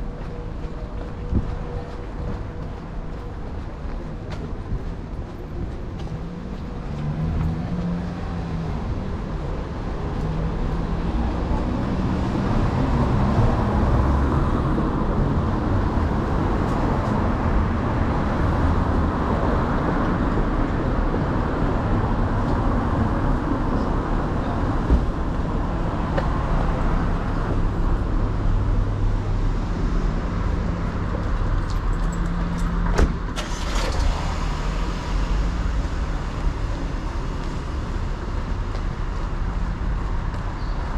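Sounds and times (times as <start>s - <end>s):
vehicle engines running: 0.0s - 40.9s.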